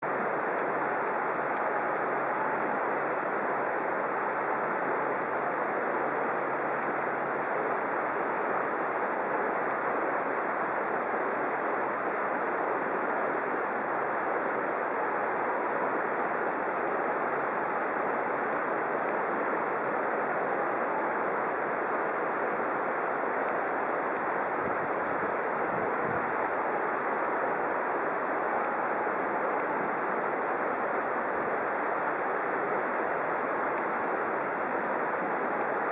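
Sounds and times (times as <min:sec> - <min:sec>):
flowing water rushing: 0:00.0 - 0:35.9.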